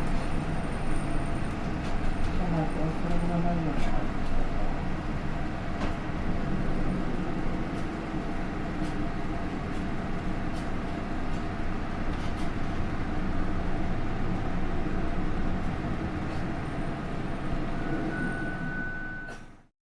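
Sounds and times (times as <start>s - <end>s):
bus diesel engine running: 0.0s - 19.6s.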